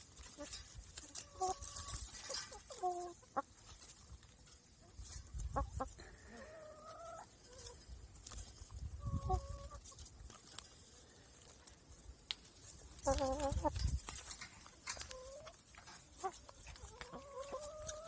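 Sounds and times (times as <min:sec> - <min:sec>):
hens clucking: 0:00.1 - 0:10.6, 0:12.7 - 0:18.0.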